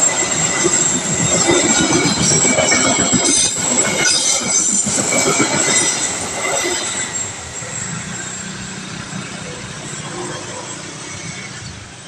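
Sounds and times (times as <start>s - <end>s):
train rattling rumble on rails: 0.0s - 12.0s
train wheels squealing: 0.0s - 12.0s.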